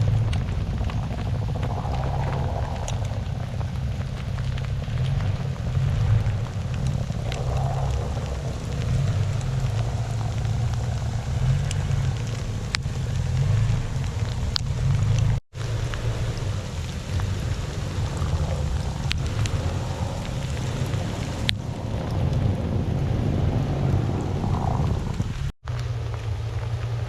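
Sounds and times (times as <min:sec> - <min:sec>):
small clicks and ticks: 0:00.0 - 0:22.5, 0:23.9 - 0:27.0
tyres over snow: 0:00.0 - 0:27.0
vehicle engine rumble: 0:00.0 - 0:27.0.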